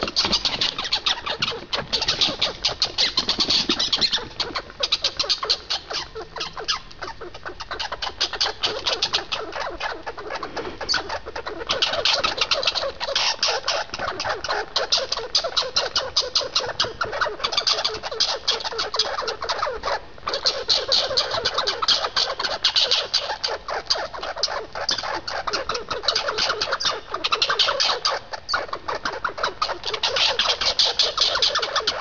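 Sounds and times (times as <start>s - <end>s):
squirrels chattering: 0.0s - 32.0s.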